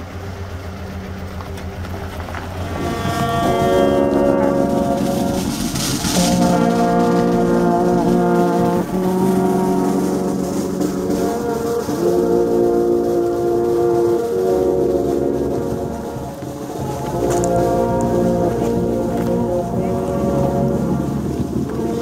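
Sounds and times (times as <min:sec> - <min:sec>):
brass band funeral march: 0:00.0 - 0:22.0.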